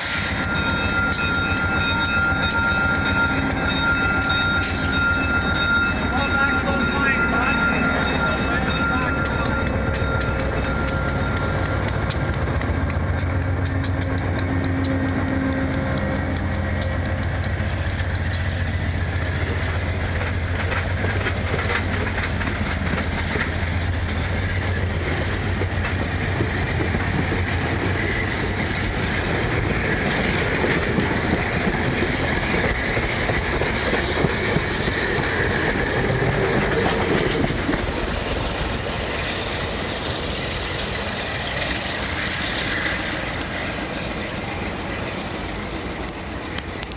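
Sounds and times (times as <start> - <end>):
diesel locomotive engine drone: 0.0 - 46.9
train wheels clickety-clack: 0.0 - 46.9.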